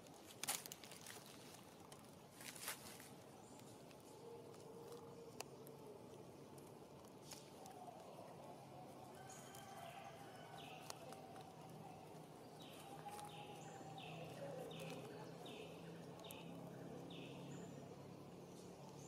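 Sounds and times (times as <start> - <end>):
outdoor background: 0.0 - 19.0.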